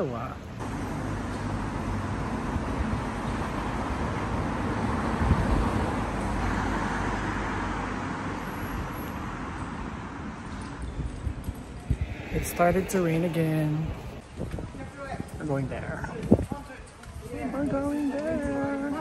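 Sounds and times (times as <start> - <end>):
passing cars: 0.6 - 16.0.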